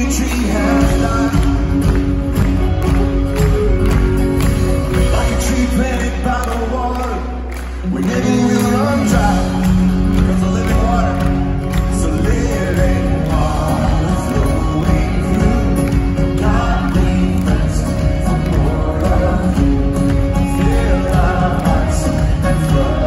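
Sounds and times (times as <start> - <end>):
male singer: 0.0 - 3.0, 4.8 - 23.0
drums: 0.0 - 6.6, 8.0 - 23.0
electric guitars: 0.0 - 23.0
keyboard: 0.0 - 23.0.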